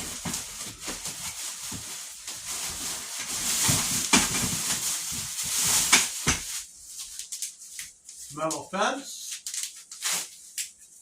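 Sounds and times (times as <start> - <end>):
wrapping rustling: 0.0 - 11.0.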